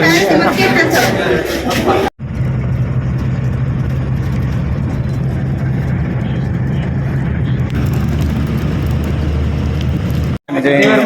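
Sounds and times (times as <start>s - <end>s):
road noise: 0.6s - 10.4s
bus engine droning: 1.4s - 10.4s.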